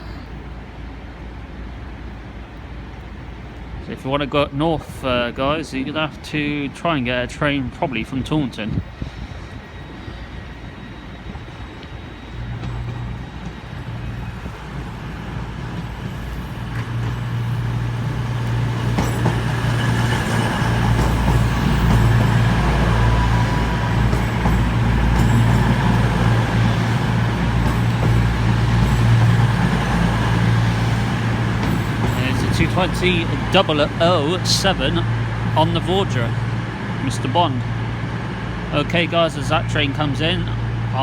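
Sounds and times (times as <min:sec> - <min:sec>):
diesel train engines humming: 0:00.0 - 0:41.0.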